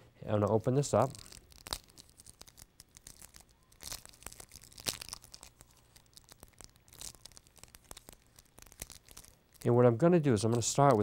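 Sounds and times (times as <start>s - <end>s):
wrapper crinkling and tearing: 0.9s - 9.7s, 10.3s - 11.0s.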